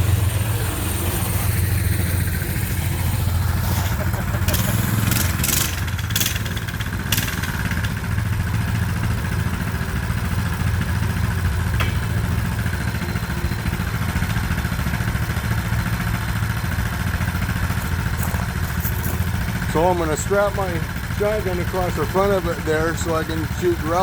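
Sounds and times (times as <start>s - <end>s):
small engine idling: 0.0s - 24.0s.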